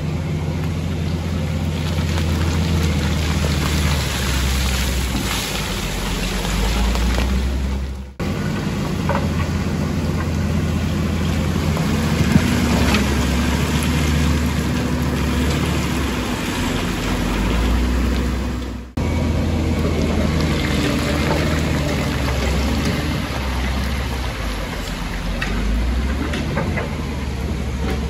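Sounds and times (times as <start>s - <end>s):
diesel engine running: 0.0s - 28.0s
loader pushing rock and dirt: 0.0s - 28.0s.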